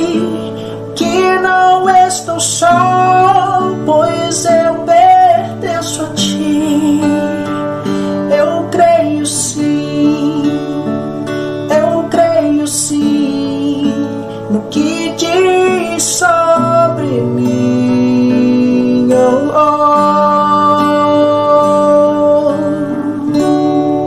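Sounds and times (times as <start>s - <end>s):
slow worship song: 0.0s - 24.0s
strummed acoustic guitar: 0.0s - 24.0s.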